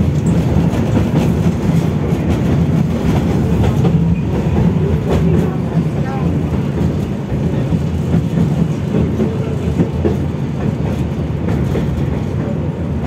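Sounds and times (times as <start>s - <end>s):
tram wheels rumbling on track: 0.0s - 13.0s.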